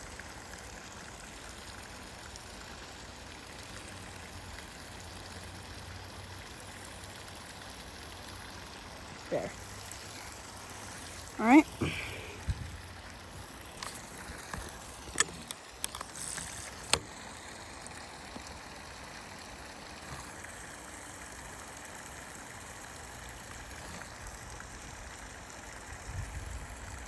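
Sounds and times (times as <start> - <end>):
creek water running: 0.0 - 27.0.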